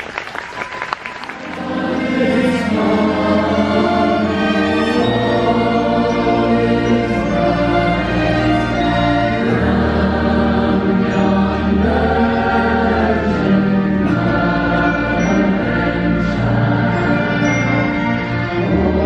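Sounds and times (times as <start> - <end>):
orchestra playing: 1.0 - 19.0
choir singing: 1.3 - 19.0.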